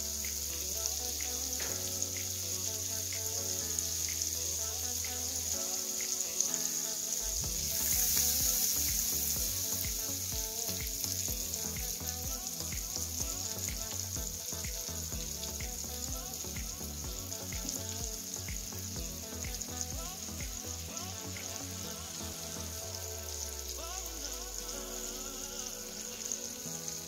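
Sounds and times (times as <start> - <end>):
butter sizzling in a frying pan: 0.1 - 27.0.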